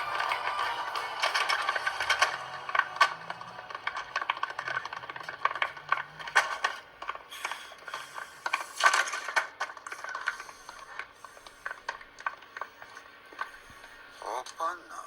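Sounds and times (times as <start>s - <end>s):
metal mechanism clicks and rattles: 0.0s - 13.5s
hissing rustles: 0.0s - 14.2s.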